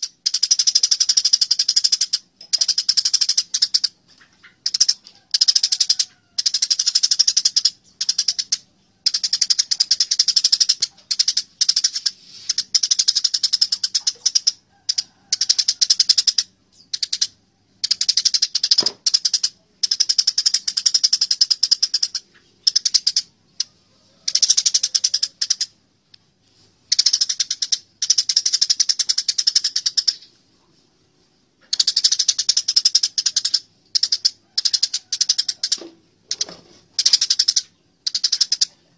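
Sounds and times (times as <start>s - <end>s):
sparrows chirping rapidly: 0.0s - 25.8s, 26.5s - 30.4s, 31.5s - 38.9s.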